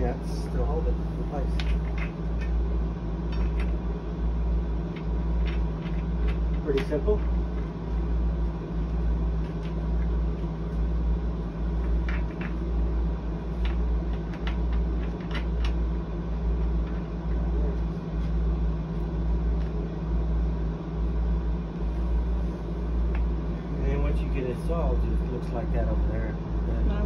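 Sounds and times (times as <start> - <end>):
machinery rumble and hum: 0.0 - 27.0.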